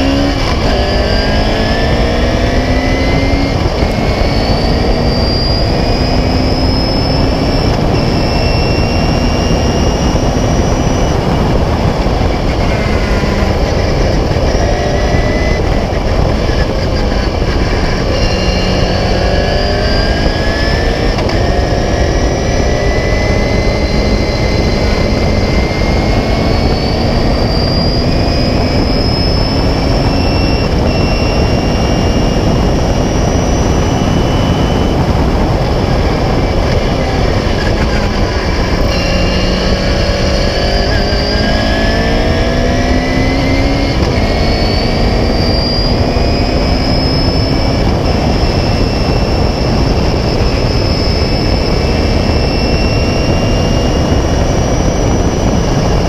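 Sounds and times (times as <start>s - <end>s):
racing car engine revving: 0.0s - 56.0s
steady rushing noise: 0.0s - 56.0s.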